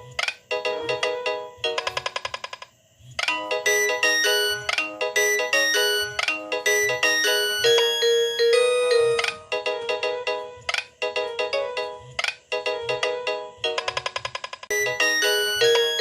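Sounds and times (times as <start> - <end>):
polyphonic ringtone melody: 0.0 - 2.2, 3.3 - 16.0
rapidly repeated ringtone notes: 0.0 - 2.6, 3.3 - 16.0.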